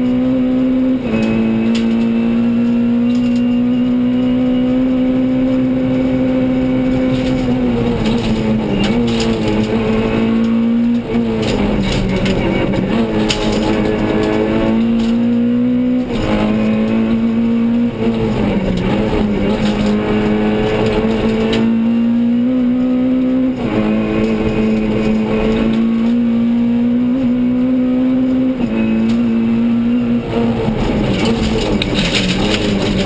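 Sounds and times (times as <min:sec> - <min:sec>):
car engine at high revs: 0:00.0 - 0:33.0.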